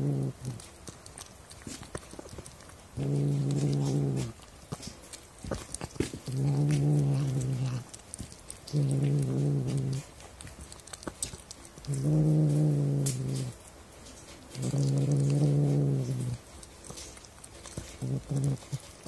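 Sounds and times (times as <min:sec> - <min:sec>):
cat growling low: 0:00.0 - 0:04.5, 0:05.5 - 0:13.6, 0:14.5 - 0:19.0.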